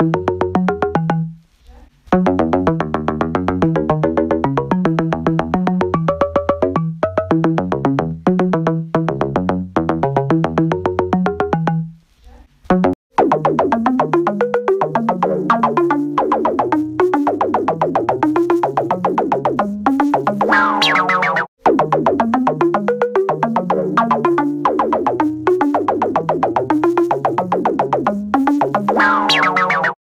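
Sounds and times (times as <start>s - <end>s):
electronic music with chopped notes: 0.0s - 1.3s, 2.1s - 11.9s, 12.7s - 30.0s.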